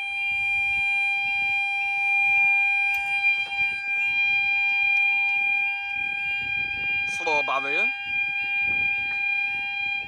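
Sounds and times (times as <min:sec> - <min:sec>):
level crossing alarm tones: 0:00.0 - 0:10.0.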